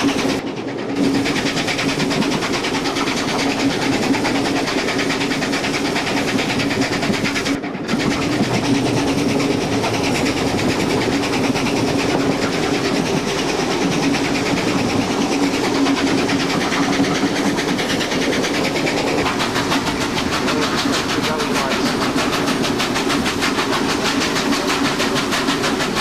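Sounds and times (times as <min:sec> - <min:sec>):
steam locomotive working hard: 0:00.0 - 0:26.0
train wheels clattering over rails: 0:00.0 - 0:26.0.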